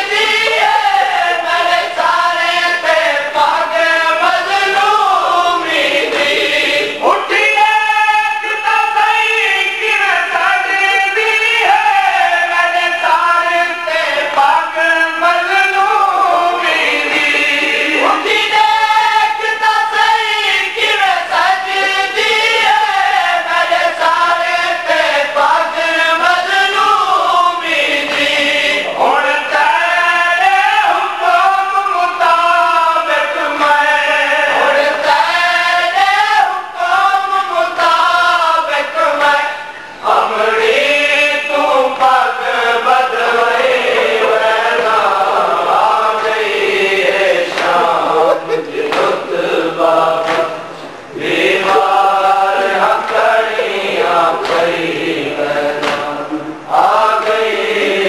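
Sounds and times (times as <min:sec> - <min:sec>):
men chanting a lament: 0:00.0 - 0:58.0.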